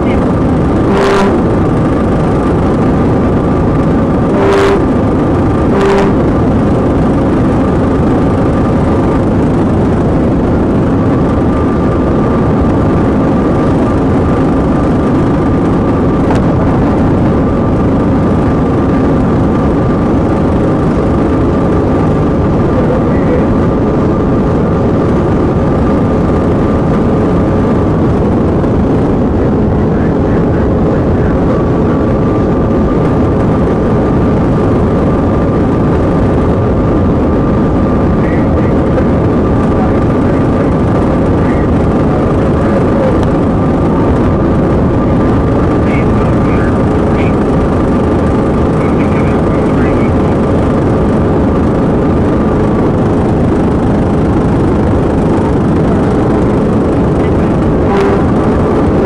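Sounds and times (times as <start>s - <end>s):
car engine at high speed: 0.0s - 59.0s
steady droning tones: 0.0s - 59.0s
wind noise: 0.0s - 59.0s.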